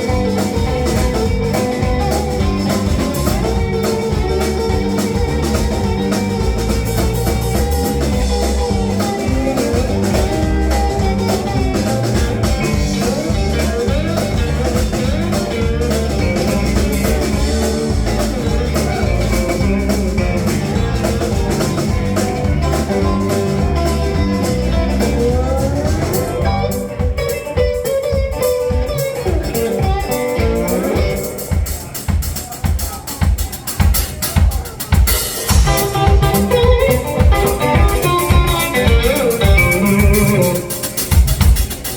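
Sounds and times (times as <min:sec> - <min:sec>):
drum kit snare and rim hits: 0:00.0 - 0:41.9
electric blues band playing: 0:00.0 - 0:41.9
electric guitar: 0:00.0 - 0:41.9.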